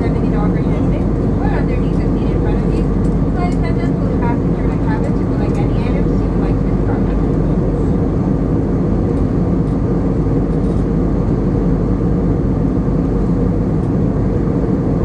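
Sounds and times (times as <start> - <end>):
airliner cabin engine rush: 0.0 - 15.0.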